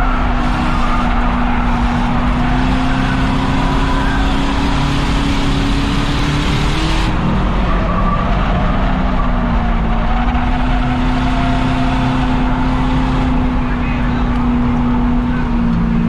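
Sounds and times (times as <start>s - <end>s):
race car engine at high revs: 0.0s - 16.0s.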